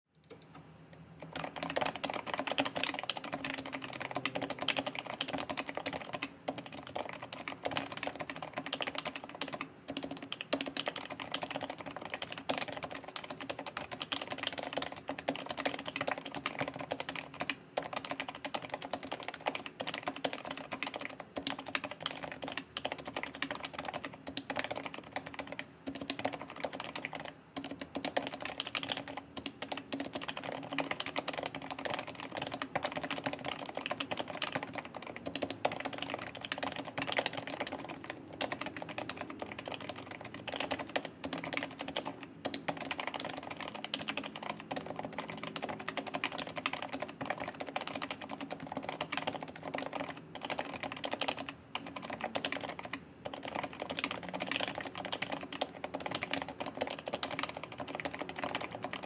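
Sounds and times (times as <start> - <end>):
fast keyboard typing: 0.2 - 59.0.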